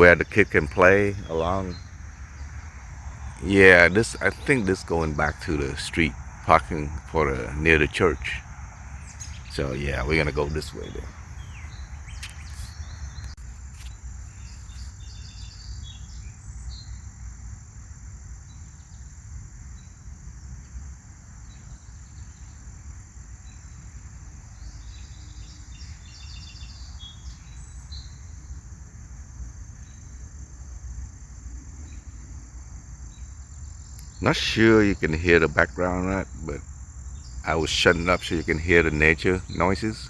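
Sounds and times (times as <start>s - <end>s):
high-pitched insect trill: 0.0s - 40.0s.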